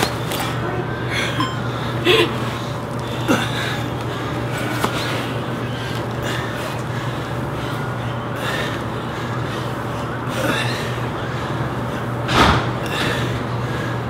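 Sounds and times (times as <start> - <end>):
steady low hum: 0.0 - 14.0
people breathing hard: 0.3 - 12.2, 12.8 - 14.0.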